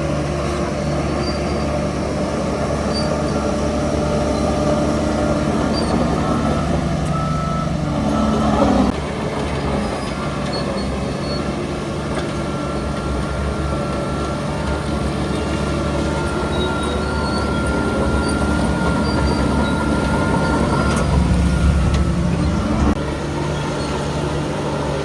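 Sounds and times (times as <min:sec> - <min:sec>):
heavy machinery diesel engine: 0:00.0 - 0:25.0
squeals: 0:00.7 - 0:08.9, 0:09.8 - 0:11.8, 0:14.0 - 0:24.3.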